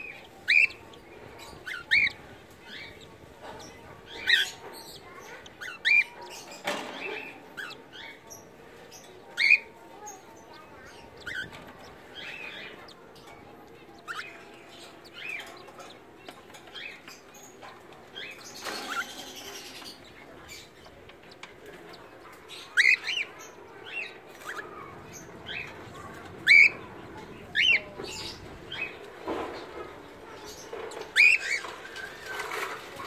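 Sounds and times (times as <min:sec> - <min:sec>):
cockatiels chirping: 0:00.0 - 0:29.7, 0:30.3 - 0:32.9.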